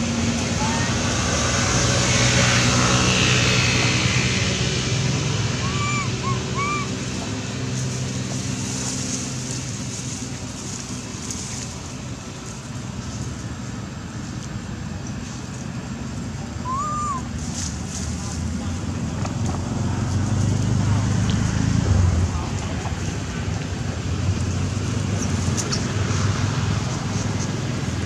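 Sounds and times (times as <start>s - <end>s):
outdoor background rush: 0.0s - 28.0s.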